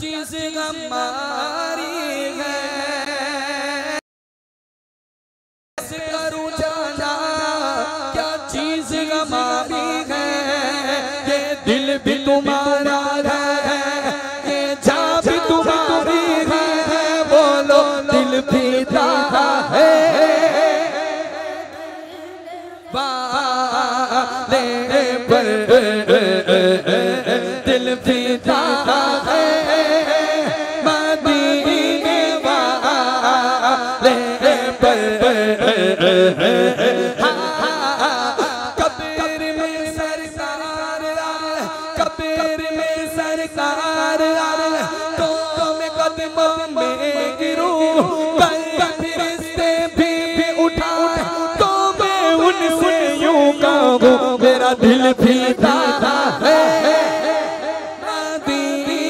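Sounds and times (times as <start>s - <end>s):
man singing devotional hymn: 0.0s - 4.0s, 5.8s - 59.0s.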